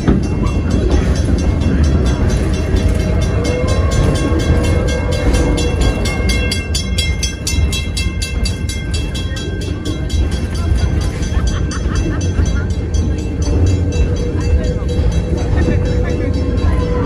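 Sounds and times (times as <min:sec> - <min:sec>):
steam locomotive chuffing: 0:00.0 - 0:17.0
train rumble: 0:00.0 - 0:17.0.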